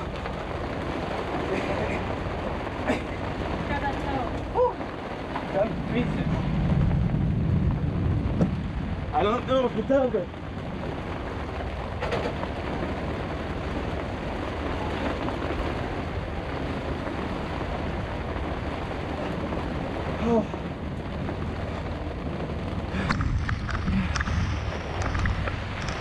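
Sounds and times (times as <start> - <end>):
storm wind and rain hiss: 0.0 - 26.0
wind buffeting microphone: 0.0 - 26.0.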